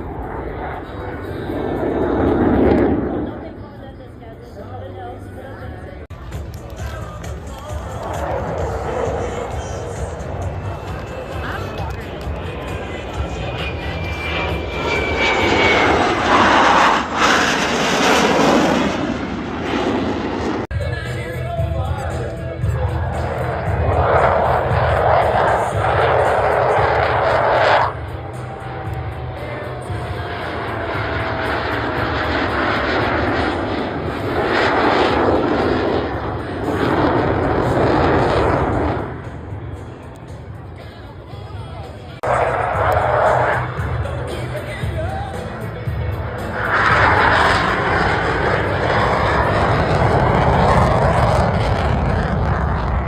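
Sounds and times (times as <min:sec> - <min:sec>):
loud jet noise: 0:00.0 - 0:53.0.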